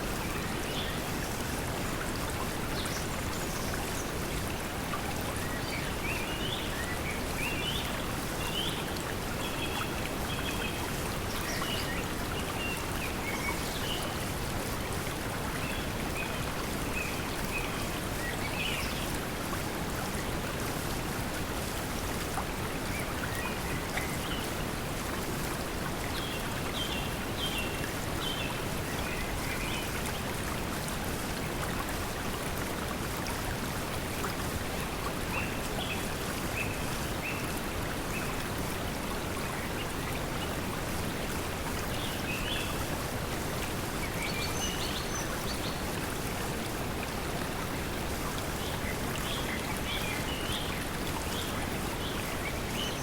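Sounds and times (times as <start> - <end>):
flowing water: 0.0 - 53.0.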